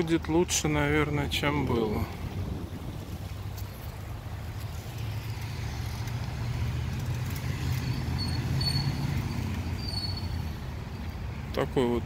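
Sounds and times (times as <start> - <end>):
passing vehicle engine rumble: 0.0 - 12.0.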